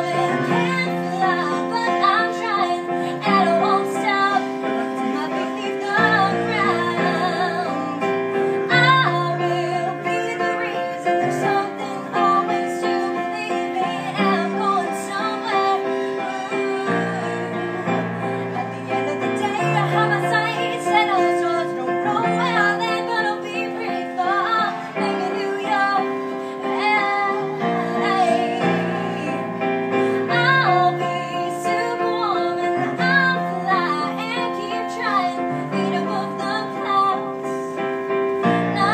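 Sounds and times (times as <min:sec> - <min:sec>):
electronic keyboard piano chords: 0:00.0 - 0:38.9
woman singing: 0:00.0 - 0:38.9.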